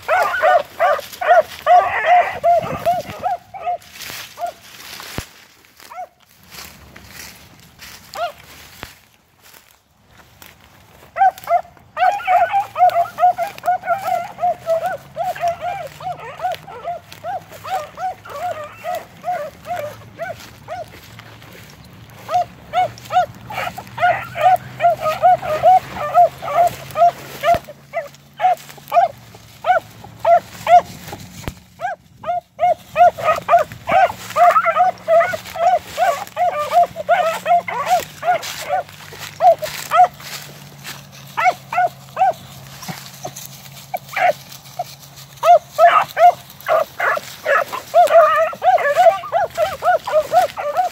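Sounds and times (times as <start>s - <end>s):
beagles bawling: 0.0s - 3.8s, 11.2s - 50.9s
hounds yelping: 0.0s - 5.2s, 5.8s - 8.8s, 10.7s - 50.9s.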